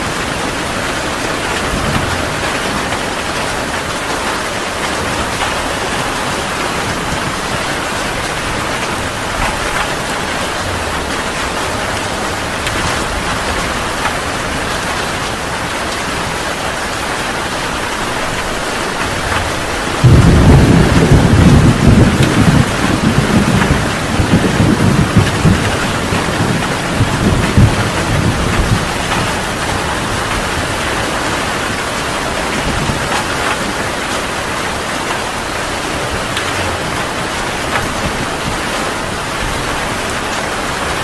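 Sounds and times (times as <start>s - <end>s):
heavy rain pouring: 0.0s - 41.0s
thunder clap and rumble: 0.0s - 41.0s.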